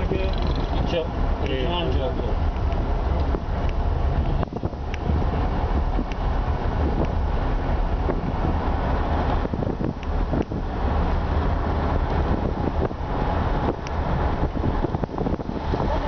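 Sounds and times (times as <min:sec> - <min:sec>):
vehicle rumble: 0:00.0 - 0:16.0
wind buffeting the microphone: 0:00.0 - 0:16.0.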